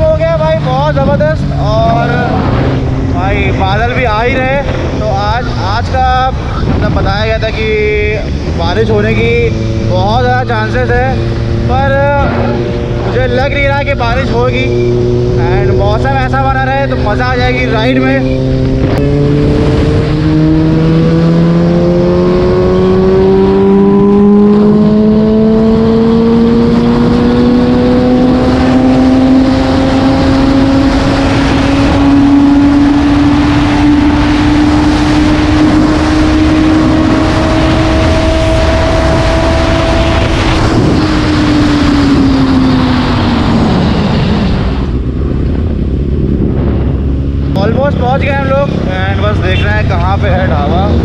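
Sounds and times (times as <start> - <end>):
motorcycle engine revving: 0.0 - 51.0
wind rushing: 0.0 - 51.0.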